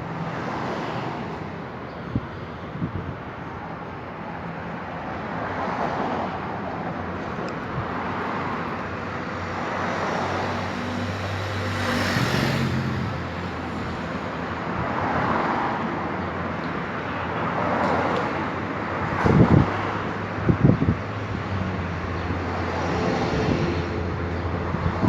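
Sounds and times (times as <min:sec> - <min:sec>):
road traffic engine hum: 0:00.0 - 0:25.0.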